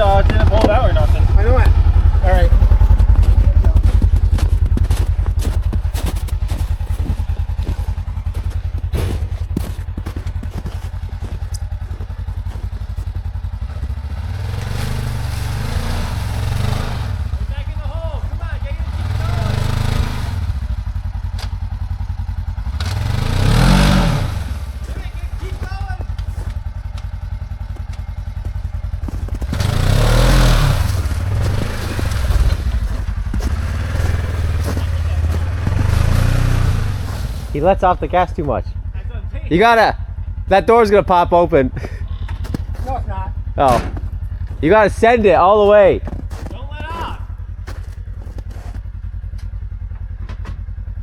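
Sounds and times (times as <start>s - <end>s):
utility vehicle engine revving: 0.0s - 51.0s.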